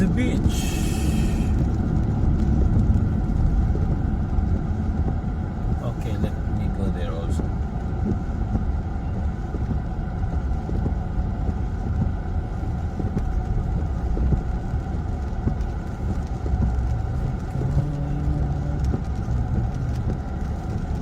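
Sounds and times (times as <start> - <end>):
car engine and road noise: 0.0 - 21.0
low hum: 0.0 - 21.0.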